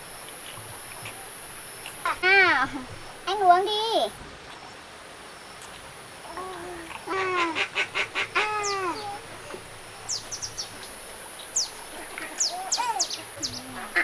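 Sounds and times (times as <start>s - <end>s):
poultry honking calls: 0.0s - 3.9s, 6.3s - 14.0s.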